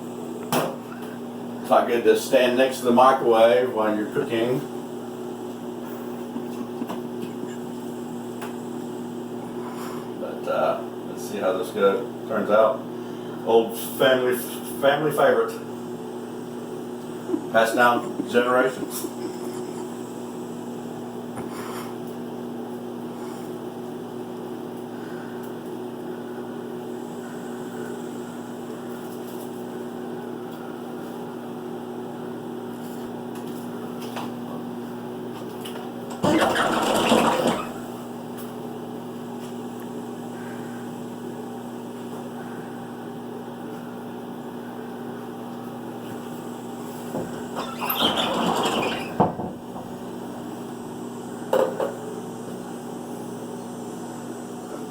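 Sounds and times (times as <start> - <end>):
microwave oven humming: 0.0 - 54.9.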